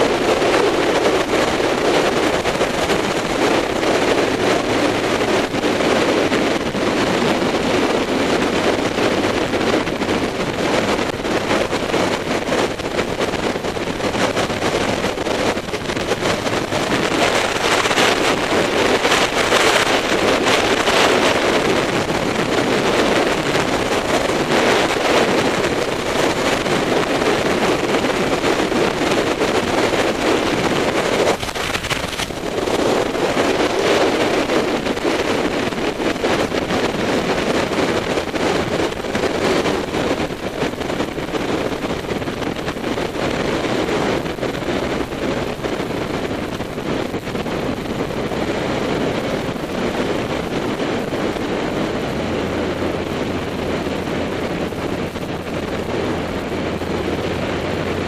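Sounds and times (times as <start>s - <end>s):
motorcycle engine and road noise: 0.0s - 58.0s
wind rushing over microphone: 0.0s - 58.0s.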